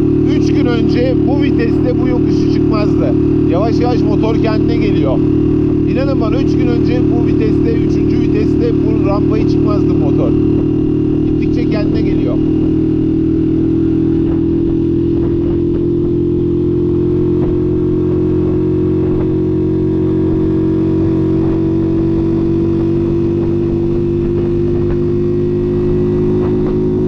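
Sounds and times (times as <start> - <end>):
motorcycle engine pulling uphill: 0.0 - 27.0.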